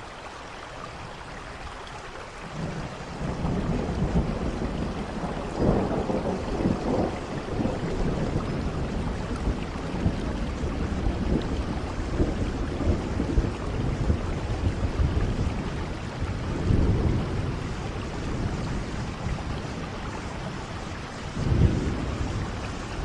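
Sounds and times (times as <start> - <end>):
heavy rain: 0.0 - 23.0
low thunder rumbling: 2.4 - 23.0.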